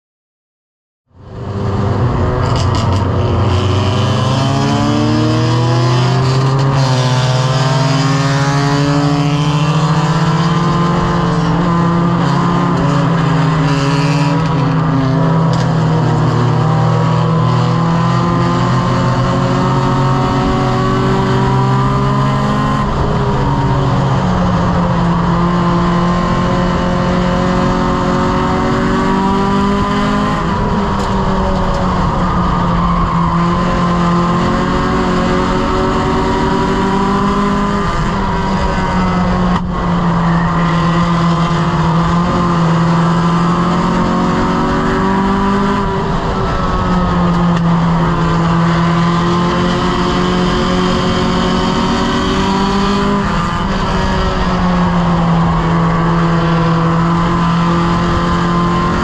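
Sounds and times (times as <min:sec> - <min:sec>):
race car engine revving: 0:01.2 - 0:59.0.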